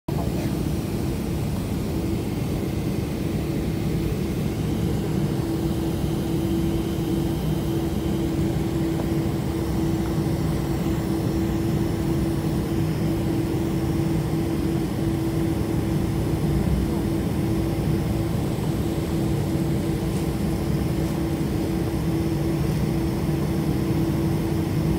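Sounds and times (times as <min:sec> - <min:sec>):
jet engines rumbling in cabin: 0:00.1 - 0:24.9
steady low hum: 0:00.1 - 0:24.9.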